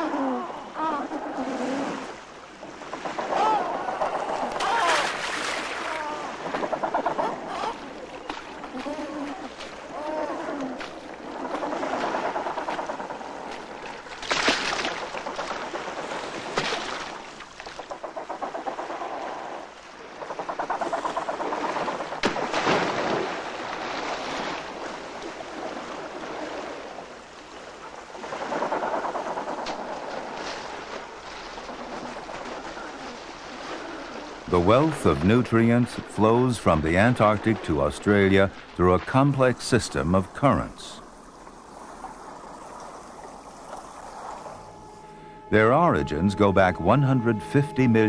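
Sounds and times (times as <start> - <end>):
sea water splashing: 0.0 - 48.0
sharp water splashes: 1.6 - 44.8.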